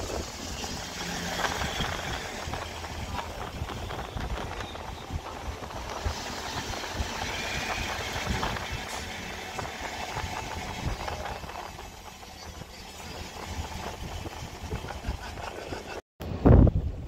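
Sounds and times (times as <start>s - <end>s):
train rumble and hiss: 0.0s - 16.4s
wind buffeting microphone: 0.0s - 17.0s.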